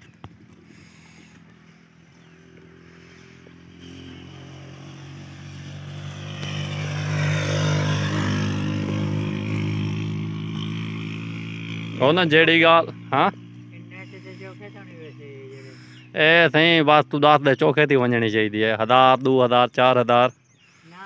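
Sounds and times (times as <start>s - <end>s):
vehicle engine running: 0.0s - 17.4s.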